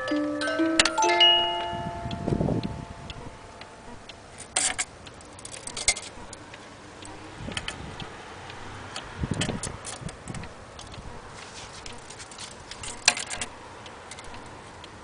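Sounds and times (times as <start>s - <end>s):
cuckoo clock ticking: 0.0s - 15.0s.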